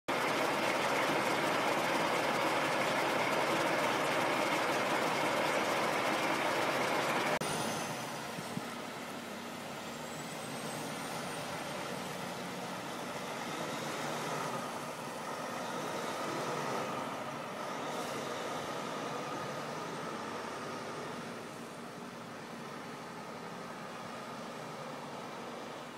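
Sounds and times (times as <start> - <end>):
diesel truck engine running: 0.1 - 25.9.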